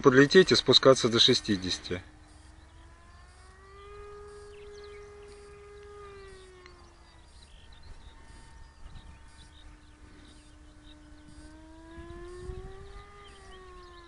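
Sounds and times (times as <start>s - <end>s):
bird or insect chirps: 0.0s - 14.0s
distant electric propeller hum: 0.0s - 14.0s
wind rumbling on microphone: 0.0s - 14.0s.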